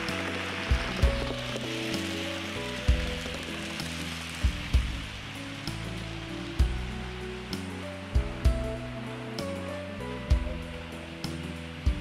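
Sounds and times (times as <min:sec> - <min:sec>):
even hiss: 0:00.0 - 0:12.0
low bass notes: 0:00.0 - 0:12.0.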